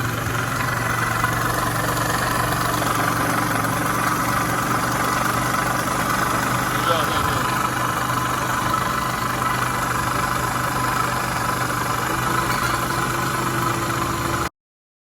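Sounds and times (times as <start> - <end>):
scooter engine idling: 0.0 - 14.5.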